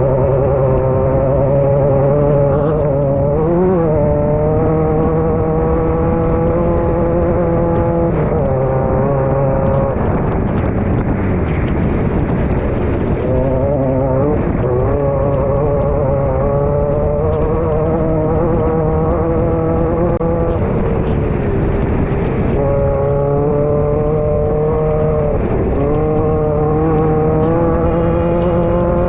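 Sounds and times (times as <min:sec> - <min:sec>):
race car engine running hard: 0:00.0 - 0:29.0.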